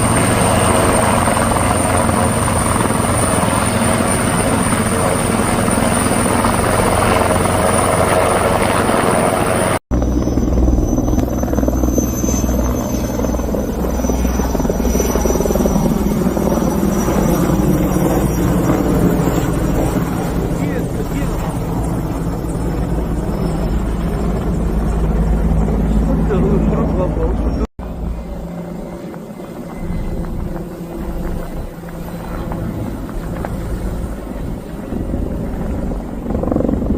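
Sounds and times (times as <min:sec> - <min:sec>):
helicopter rotor drone: 0:00.0 - 0:36.9.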